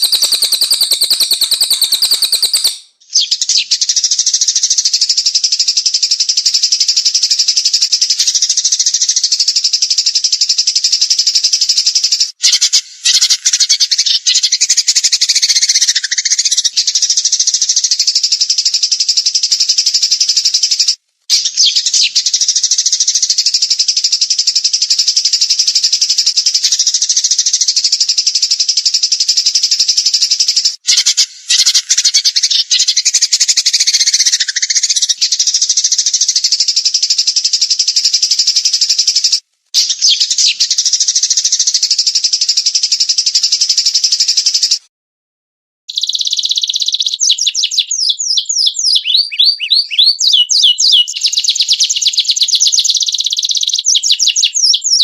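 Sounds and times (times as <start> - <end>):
songbird trilling: 0.0 - 39.0, 39.8 - 42.1, 45.9 - 55.0
falling bird whistle: 0.0 - 44.7, 45.9 - 55.0.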